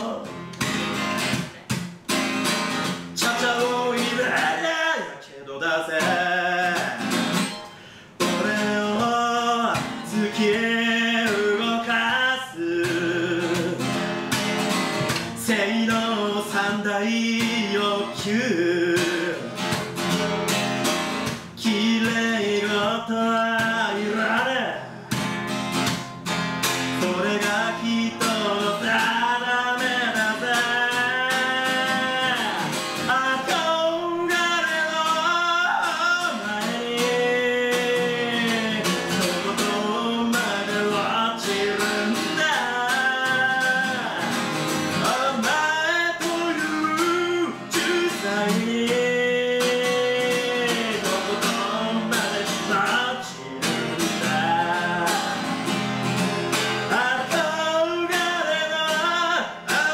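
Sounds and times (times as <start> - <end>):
man singing: 0.0 - 0.6, 2.9 - 25.3, 26.6 - 59.9
acoustic guitar strumming: 0.0 - 59.9.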